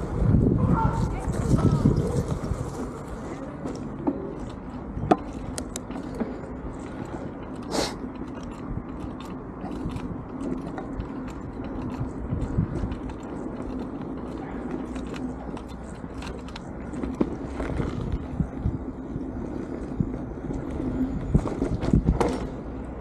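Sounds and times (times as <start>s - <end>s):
bicycle tyres rumbling on asphalt: 0.0s - 23.0s
bike clicks and rattles: 1.2s - 23.0s.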